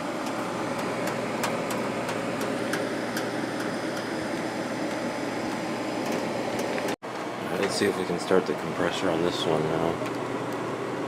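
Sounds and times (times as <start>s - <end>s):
air conditioner fan whoosh: 0.0s - 11.0s.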